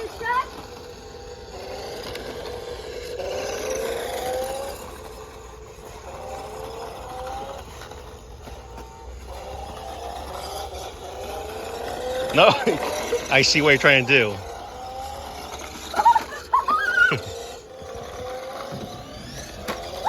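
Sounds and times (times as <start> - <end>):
toy truck motor whining: 0.0 - 20.0.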